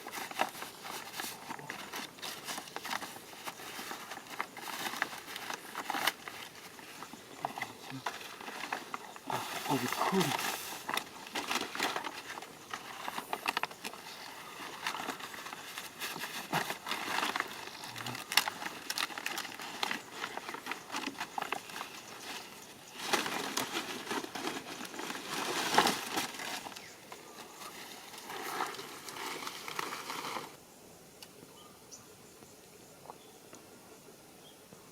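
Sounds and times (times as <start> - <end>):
leaves and twigs rustling: 0.0 - 30.7.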